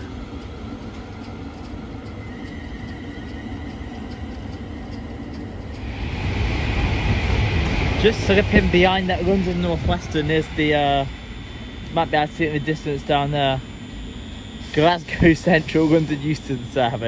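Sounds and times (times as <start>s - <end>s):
electric train rumbling on tracks: 0.0s - 17.0s.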